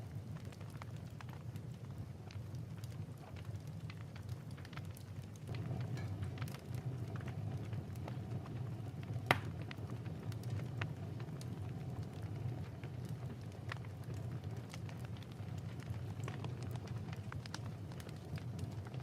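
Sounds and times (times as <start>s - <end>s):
fireplace crackling and popping: 0.0s - 19.0s.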